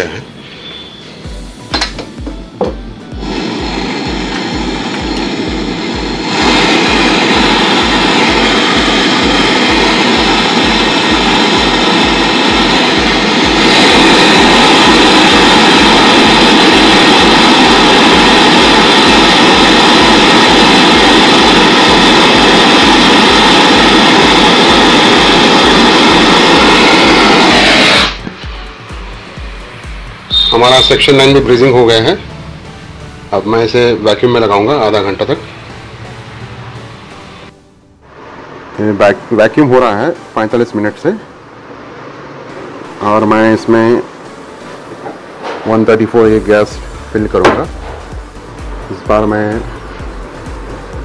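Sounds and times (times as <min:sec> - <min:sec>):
gas torch flame roaring: 0:00.0 - 0:51.0.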